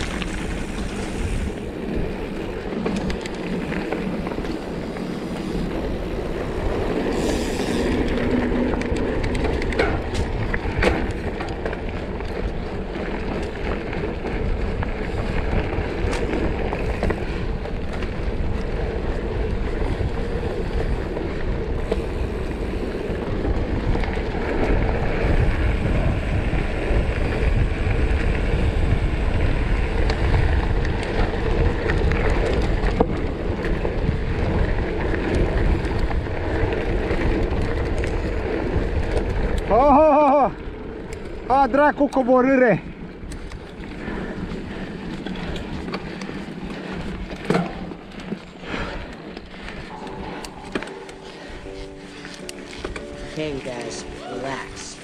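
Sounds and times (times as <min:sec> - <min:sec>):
mountain bike rolling on dirt: 0:00.0 - 0:55.0
sharp bike clicks: 0:00.0 - 0:55.0.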